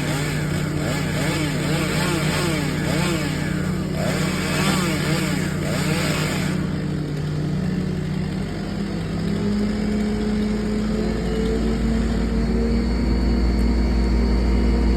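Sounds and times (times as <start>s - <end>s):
engine running: 0.0s - 14.9s.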